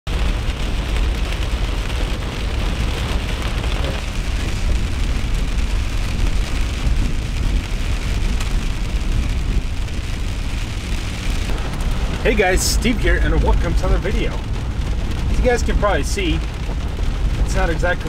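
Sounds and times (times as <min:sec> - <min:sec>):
rain pattering on windshield and roof: 0:00.1 - 0:18.0
truck rumbling on dirt road: 0:00.1 - 0:18.0.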